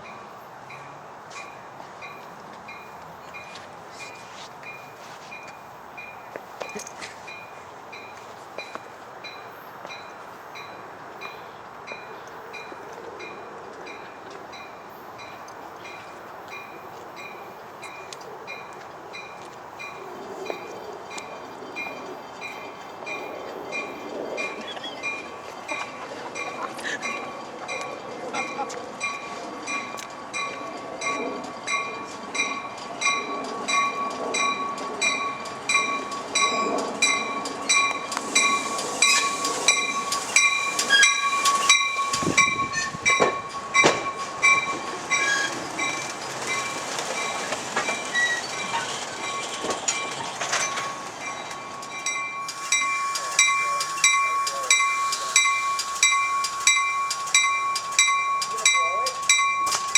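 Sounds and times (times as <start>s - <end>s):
crossing bell dinging: 0.0s - 59.9s
train wheels on rails: 0.0s - 59.9s.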